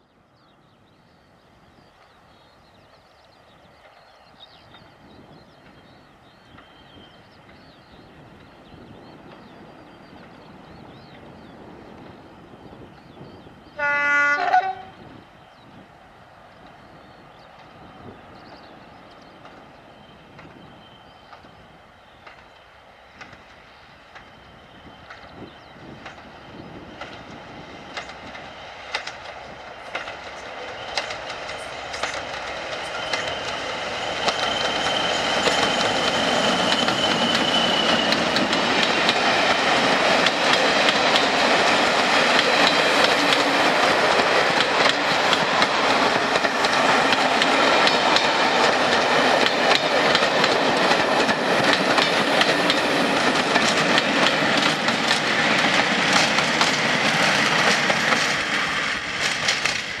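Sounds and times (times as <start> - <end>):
diesel train passing: 0.0 - 60.0.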